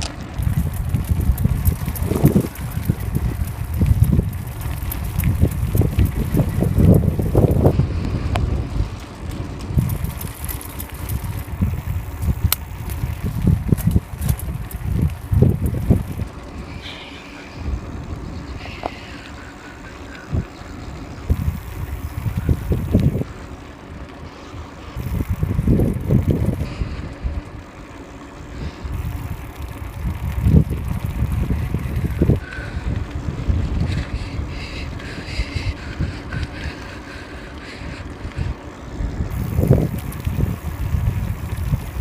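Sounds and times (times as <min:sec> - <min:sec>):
bicycle rolling rush: 0:00.0 - 0:42.0
wind buffeting microphone: 0:00.0 - 0:42.0.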